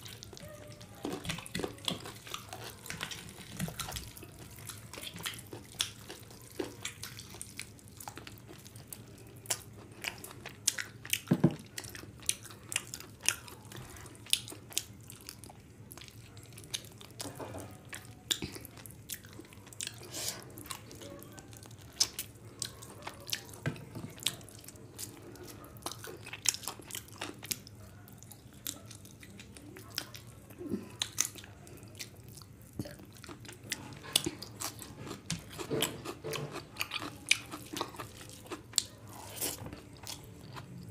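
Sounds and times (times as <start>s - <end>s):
chewing and lip smacks: 0.0s - 40.9s.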